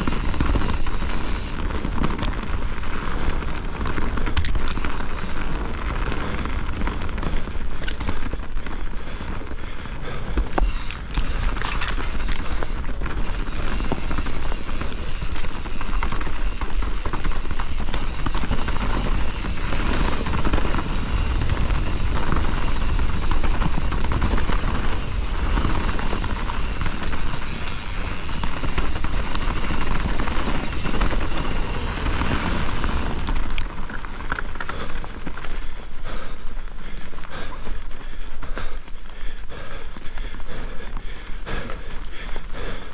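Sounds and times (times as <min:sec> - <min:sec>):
wind rumble on microphone: 0:00.0 - 0:37.8
bike rattling and knocking: 0:00.0 - 0:42.9
bike tyres rolling over rocks: 0:00.0 - 0:42.9.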